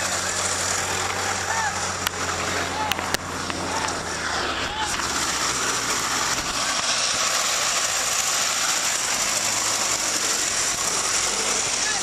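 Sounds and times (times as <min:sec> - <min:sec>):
tractor engine clattering: 0:00.0 - 0:12.0.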